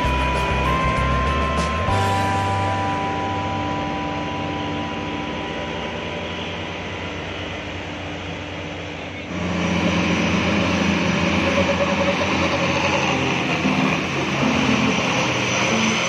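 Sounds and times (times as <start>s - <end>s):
heavy diesel engines running: 0.0s - 16.0s.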